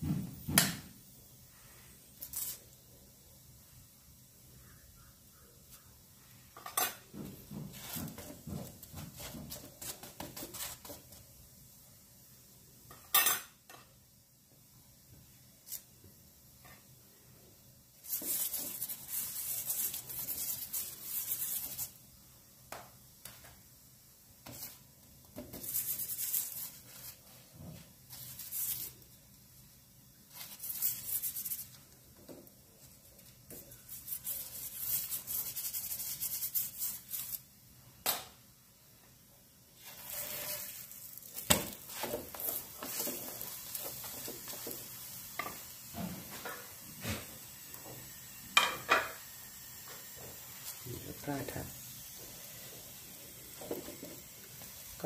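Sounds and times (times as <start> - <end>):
flatbread sizzling on a griddle: 0.0 - 55.0.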